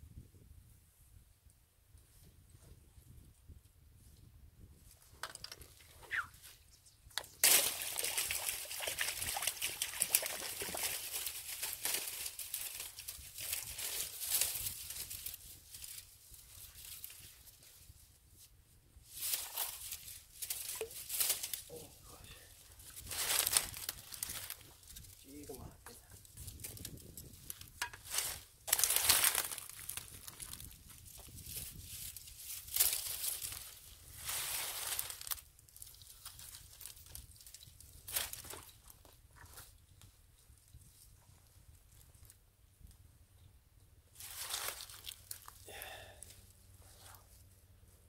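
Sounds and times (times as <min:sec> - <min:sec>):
dry reeds crackling underfoot: 0:04.9 - 0:43.0, 0:44.1 - 0:47.6.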